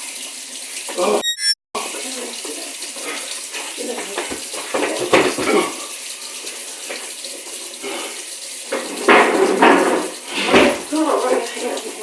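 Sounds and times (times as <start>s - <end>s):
water running from faucet: 0.0s - 1.2s, 1.8s - 12.0s.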